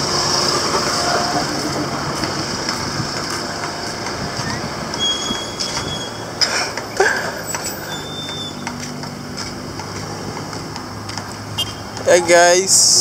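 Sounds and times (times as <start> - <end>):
heavy vehicle engines: 0.0 - 13.0.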